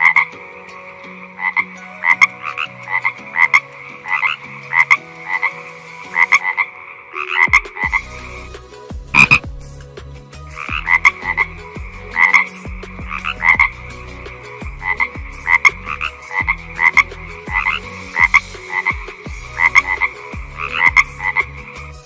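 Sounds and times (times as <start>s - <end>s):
frogs croaking: 0.0s - 8.1s, 9.2s - 9.4s, 10.5s - 13.8s, 14.4s - 21.8s.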